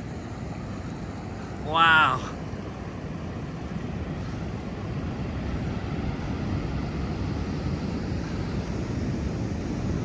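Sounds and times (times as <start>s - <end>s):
surf breaking on beach: 0.0s - 10.0s
wind on microphone: 0.0s - 10.0s.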